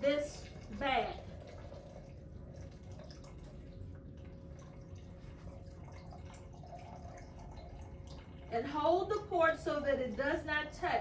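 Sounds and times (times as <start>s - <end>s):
liquid trickling into plastic container: 0.0s - 10.3s.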